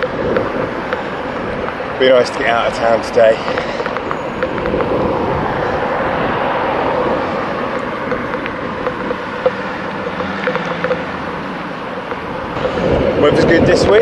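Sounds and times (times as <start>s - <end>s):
bicycle tyre noise: 0.0s - 14.0s
low engine hum: 0.0s - 14.0s
motor traffic: 0.0s - 14.0s
wind noise: 0.0s - 14.0s.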